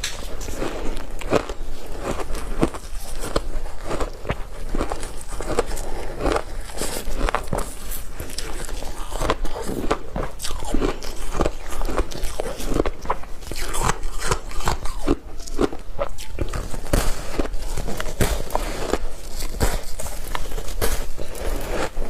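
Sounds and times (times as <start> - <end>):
chewing crunchy ice: 0.0 - 22.0.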